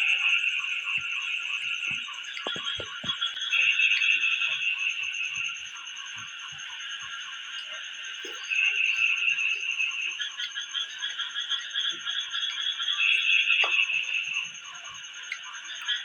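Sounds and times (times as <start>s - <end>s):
frogs calling: 0.0s - 16.0s
insects trilling: 0.0s - 16.0s.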